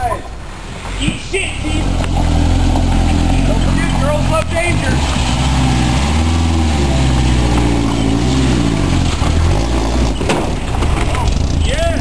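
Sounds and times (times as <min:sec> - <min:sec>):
car engine revving: 0:01.5 - 0:12.0.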